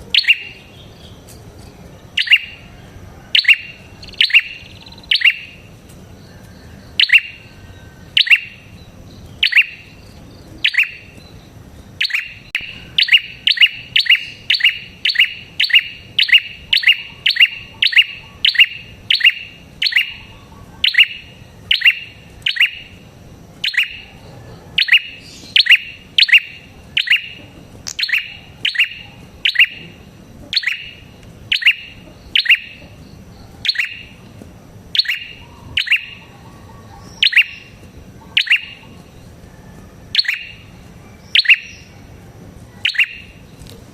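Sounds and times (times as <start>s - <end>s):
bird chirping sharply: 0.1s - 1.3s, 2.0s - 2.6s, 3.4s - 5.7s, 6.4s - 23.0s, 23.6s - 34.2s, 34.9s - 39.3s, 40.1s - 42.0s, 42.8s - 43.5s.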